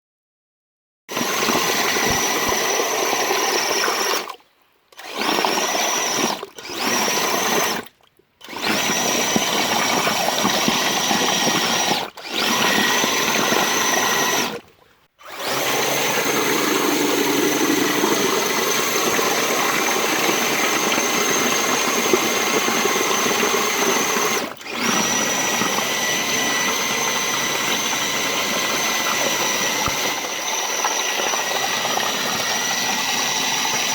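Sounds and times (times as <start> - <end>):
electric motor and gearbox whining: 1.1 - 4.3, 8.4 - 14.6, 15.2 - 33.9.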